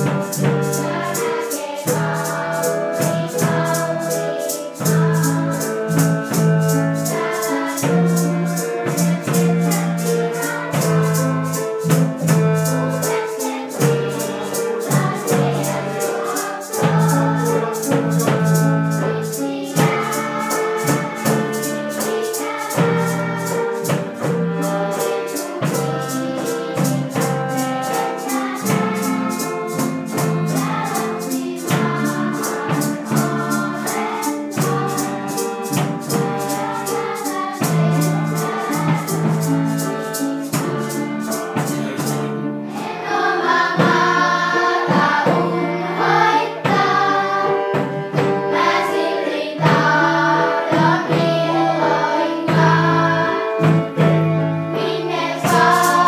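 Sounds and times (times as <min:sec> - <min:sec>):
choir singing: 0:00.0 - 0:56.0
instrumental accompaniment: 0:00.0 - 0:56.0
ticking percussion beat: 0:00.0 - 0:56.0.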